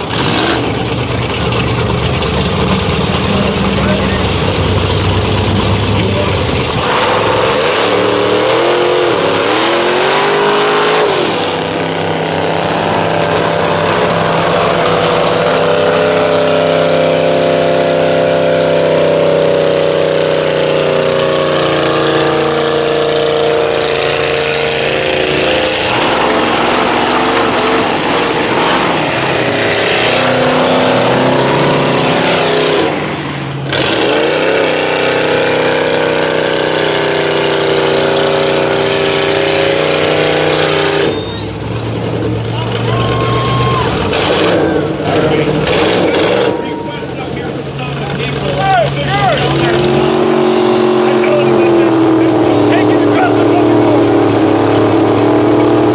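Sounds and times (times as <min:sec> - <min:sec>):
truck engines revving: 0:00.0 - 0:55.9.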